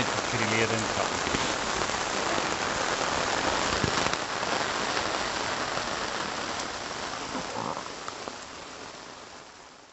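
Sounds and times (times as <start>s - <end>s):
rain on a canopy: 0.0s - 9.9s.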